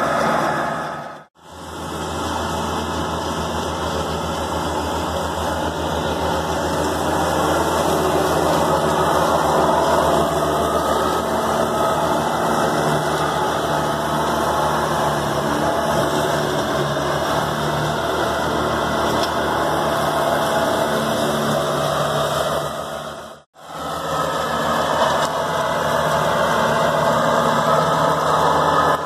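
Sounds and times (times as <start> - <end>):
tractor diesel engine running: 0.0 - 29.0
mower deck cutting grass: 1.4 - 29.0.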